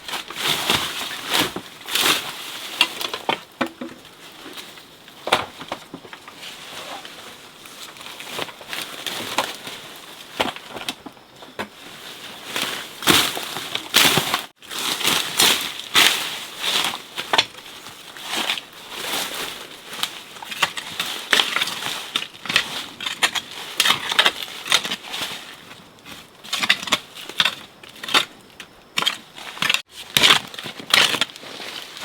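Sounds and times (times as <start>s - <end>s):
crunching and crackling: 0.0s - 32.0s.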